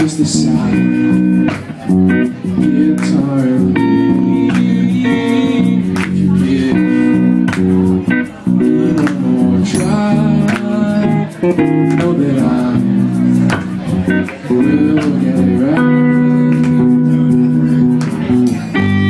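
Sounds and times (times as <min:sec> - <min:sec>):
man singing: 0:00.0 - 0:18.0
acoustic guitar strumming: 0:00.0 - 0:19.0
electric bass guitar: 0:00.0 - 0:19.0.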